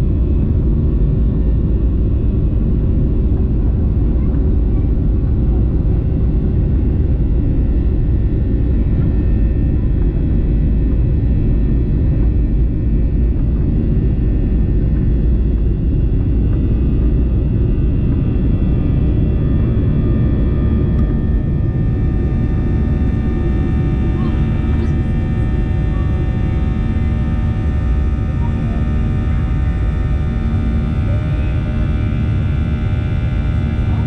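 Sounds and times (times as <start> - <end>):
faint engine whine: 0.0 - 34.0
jet engine cabin rumble: 0.0 - 34.0.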